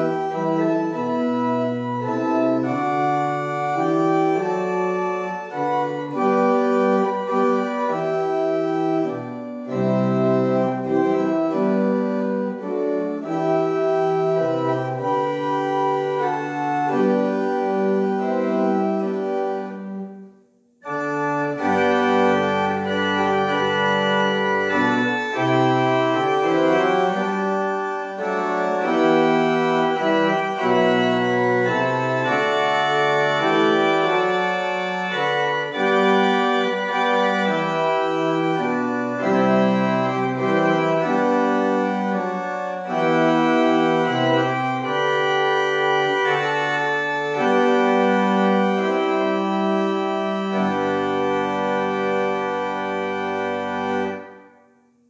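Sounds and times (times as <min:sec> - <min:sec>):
organ chords: 0:00.0 - 0:55.0.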